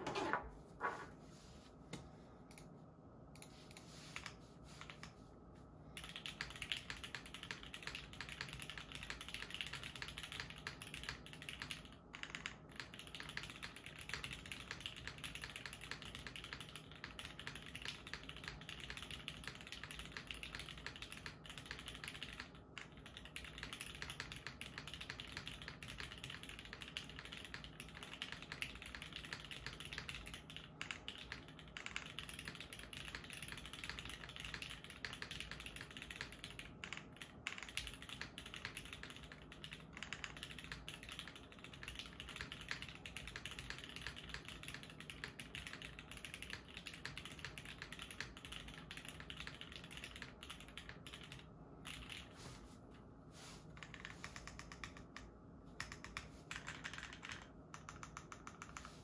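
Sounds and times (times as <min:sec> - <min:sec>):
fast mechanical keyboard typing: 0:05.9 - 0:52.4, 0:53.7 - 0:59.0.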